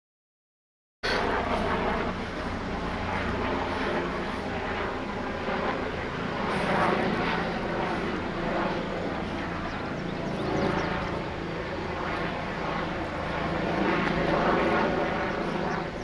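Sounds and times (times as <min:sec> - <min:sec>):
helicopter engine and rotor drone: 0:01.0 - 0:16.0.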